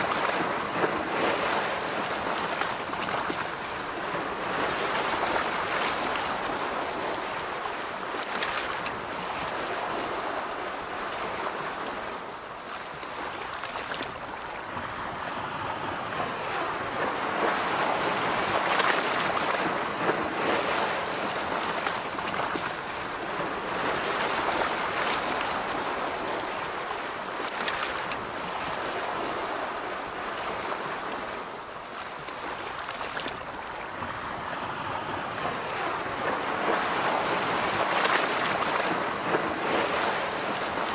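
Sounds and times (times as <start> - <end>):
ocean surf on a beach: 0.0 - 40.9.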